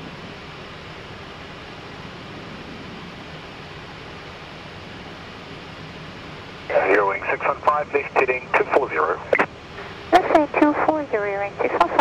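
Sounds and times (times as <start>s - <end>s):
cockpit airflow hiss: 0.3s - 12.0s.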